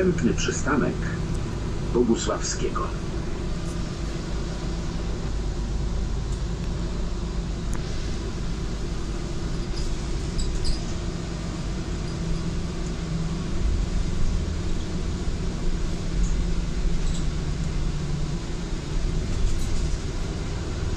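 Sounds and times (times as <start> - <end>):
bus engine and road rumble: 0.0 - 20.9.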